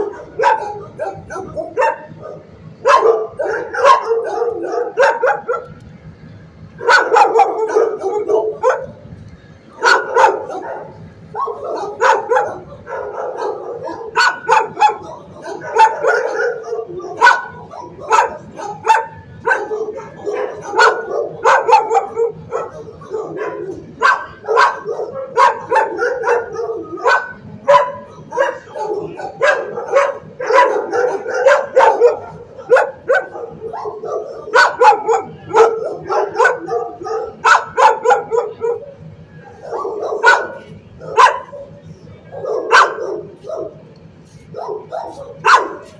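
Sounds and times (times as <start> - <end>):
dogs barking: 0.0 - 5.8, 6.8 - 9.0, 9.7 - 45.9.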